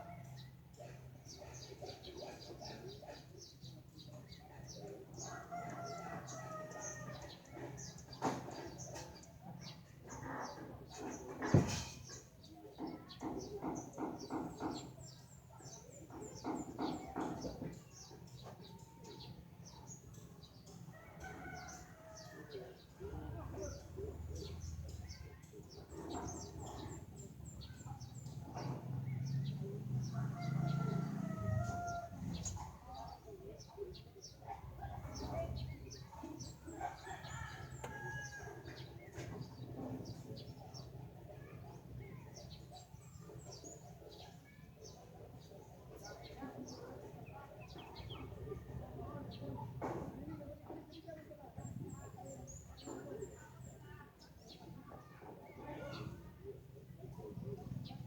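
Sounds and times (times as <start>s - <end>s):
birds chattering: 0.0s - 58.0s
small birds chirping: 0.0s - 58.0s.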